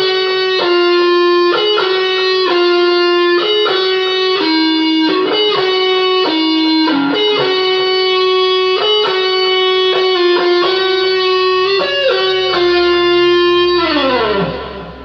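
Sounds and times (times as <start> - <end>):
electric guitar lead: 0.0 - 15.0.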